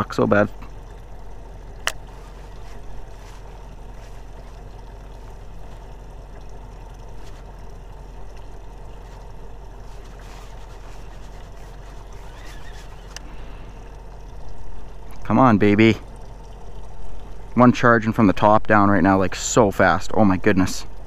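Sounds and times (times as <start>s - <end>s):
faint water noise: 0.0s - 21.0s
steady low hum: 0.0s - 21.0s.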